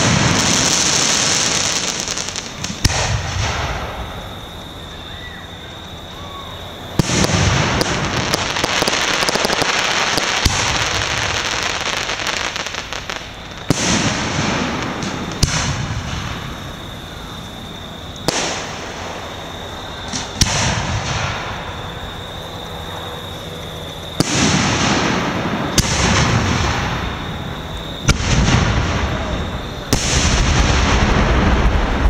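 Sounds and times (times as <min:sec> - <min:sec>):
fireworks crackling: 0:00.0 - 0:05.4, 0:06.1 - 0:32.0
fireworks bangs: 0:00.0 - 0:05.6, 0:06.2 - 0:32.0.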